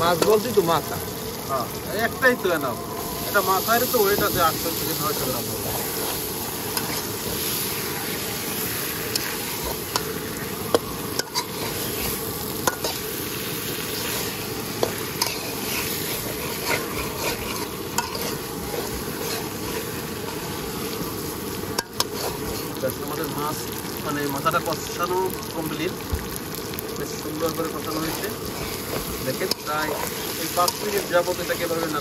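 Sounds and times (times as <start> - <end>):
fish head sizzling in oil: 0.0 - 32.0.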